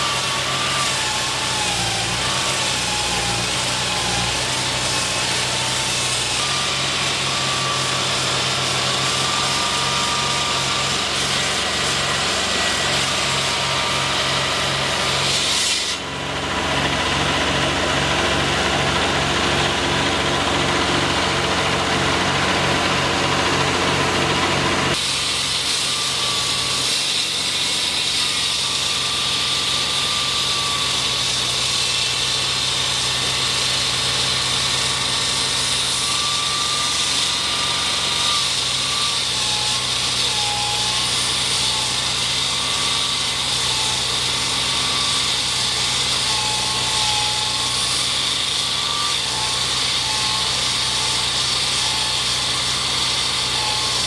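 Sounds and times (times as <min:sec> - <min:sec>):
construction machinery engine running: 0:00.0 - 0:54.0.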